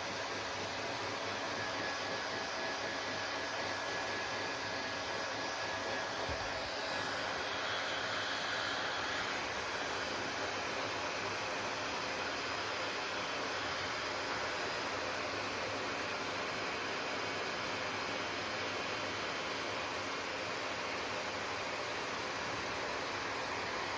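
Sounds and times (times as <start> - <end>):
hair dryer running: 0.0 - 23.9.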